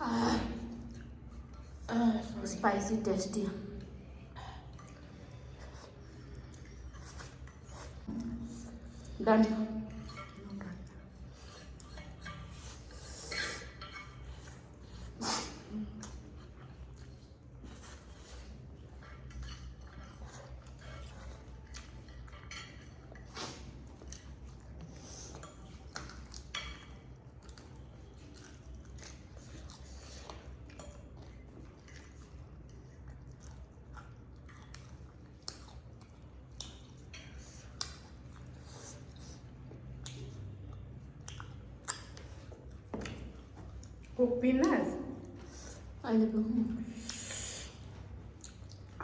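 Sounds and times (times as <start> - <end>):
people chewing and slurping: 0.0 - 49.0.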